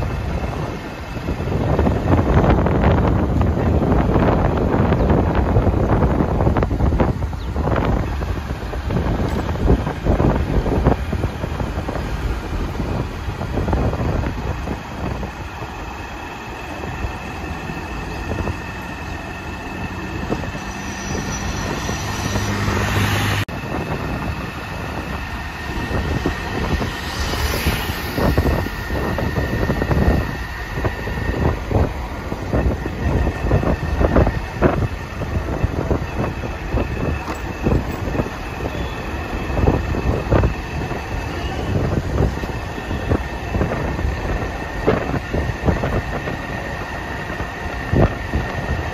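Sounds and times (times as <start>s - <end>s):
road vehicle noise: 0.0s - 48.9s
wind buffeting microphone: 0.0s - 48.9s.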